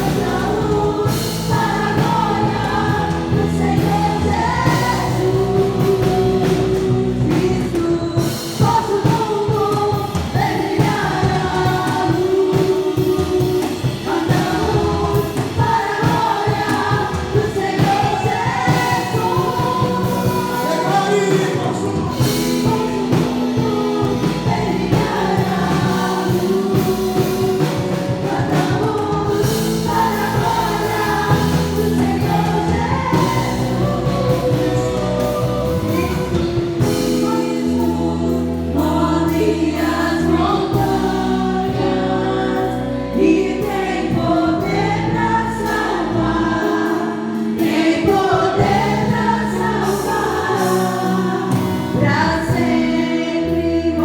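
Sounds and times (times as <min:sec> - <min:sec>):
steady drum beat: 0:00.0 - 0:42.8, 0:43.6 - 0:53.6
bass and keyboard notes: 0:00.0 - 0:54.0
full band playing: 0:00.0 - 0:54.0
group singing a praise song: 0:00.0 - 0:54.0.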